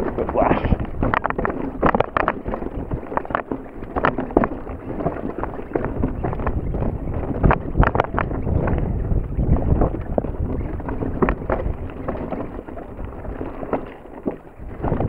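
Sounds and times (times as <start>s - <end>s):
mountain bike rattling on rocks: 0.0s - 15.0s
wind rumbling on microphone: 0.0s - 15.0s.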